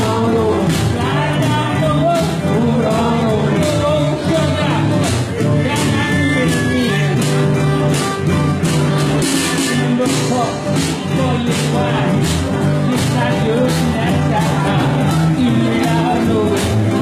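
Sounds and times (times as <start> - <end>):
bass line: 0.0 - 17.0
live band playing blues-rock: 0.0 - 17.0
steady drum beat: 0.0 - 17.0.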